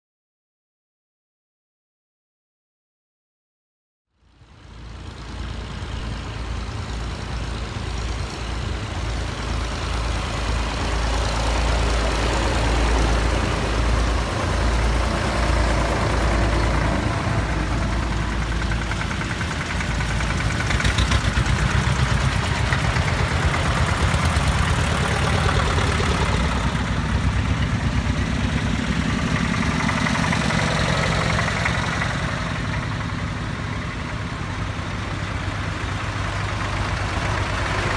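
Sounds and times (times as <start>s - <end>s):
tractors driving past: 4.2s - 37.9s.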